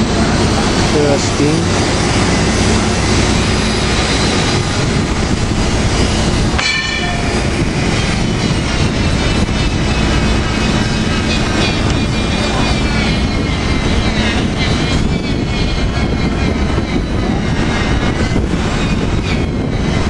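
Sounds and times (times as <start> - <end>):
industrial machinery hum: 0.0 - 20.0.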